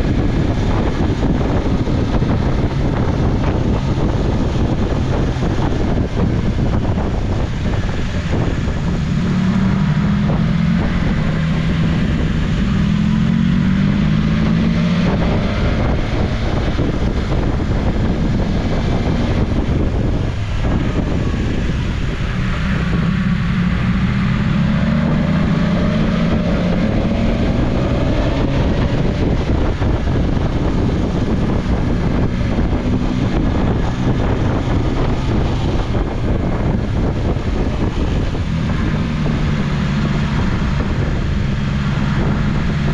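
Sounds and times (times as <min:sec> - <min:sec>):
motorcycle engine revving: 0:00.0 - 0:42.9
wind rush on microphone: 0:00.0 - 0:42.9.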